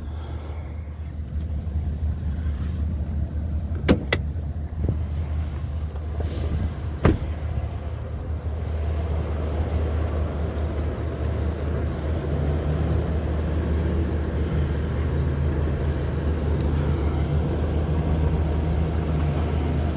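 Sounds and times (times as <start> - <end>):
pickup engine idling: 0.0 - 19.9.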